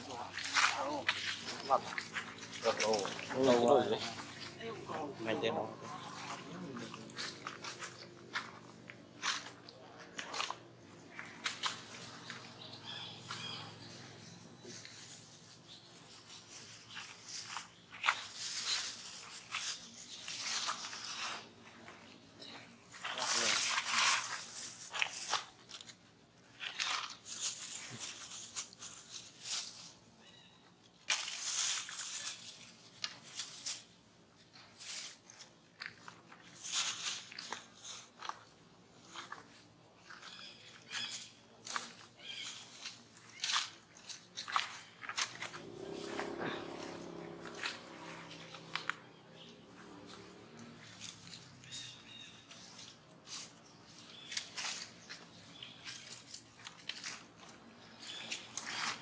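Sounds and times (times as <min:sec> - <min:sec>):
dry leaves crunching underfoot: 0:00.0 - 0:59.0.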